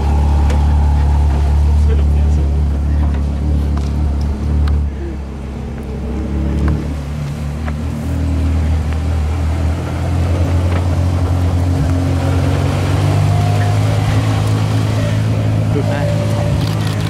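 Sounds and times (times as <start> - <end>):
deep car engine at low revs: 0.0 - 17.0.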